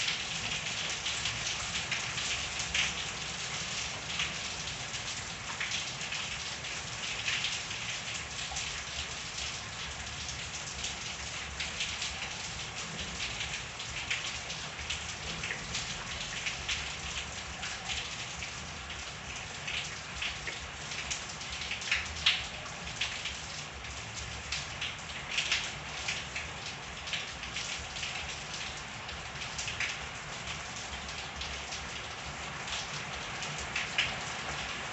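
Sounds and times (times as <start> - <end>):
raindrops pattering on surfaces: 0.0 - 34.9
steady rain hiss: 0.0 - 34.9.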